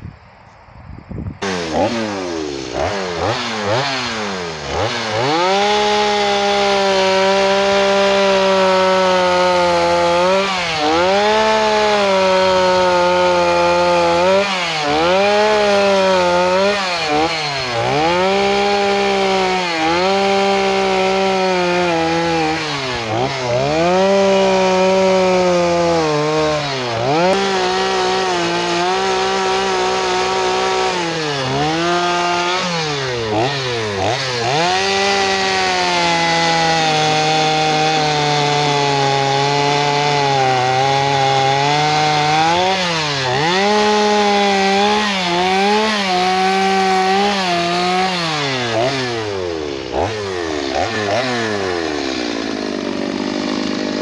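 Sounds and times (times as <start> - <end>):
chainsaw carving into log: 1.4 - 54.0.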